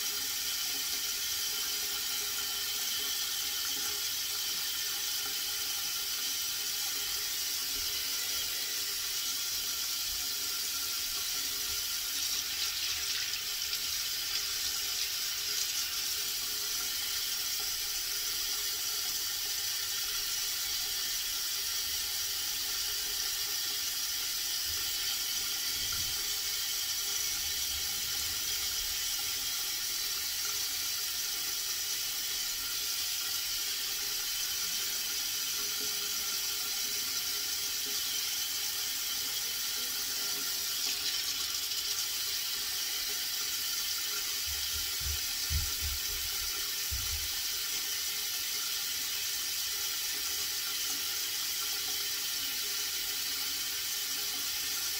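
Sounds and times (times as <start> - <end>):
water running from a tap: 0.0 - 54.9.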